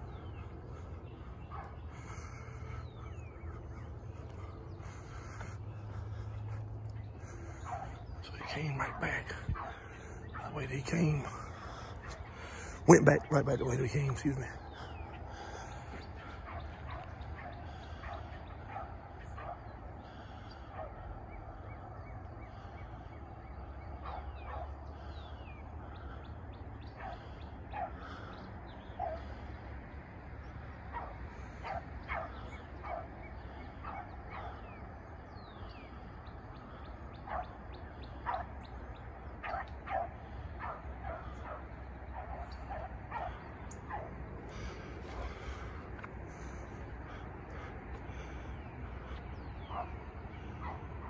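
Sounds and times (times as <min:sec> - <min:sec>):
steady low rumble: 0:00.0 - 0:24.0, 0:29.3 - 0:51.0.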